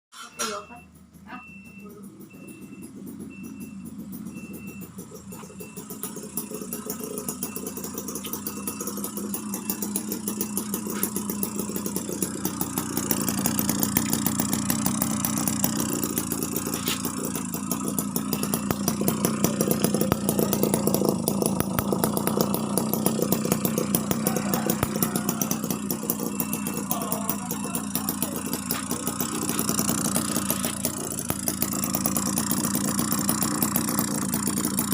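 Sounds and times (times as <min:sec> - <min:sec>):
miniature two-stroke engine running: 0:00.2 - 0:34.9.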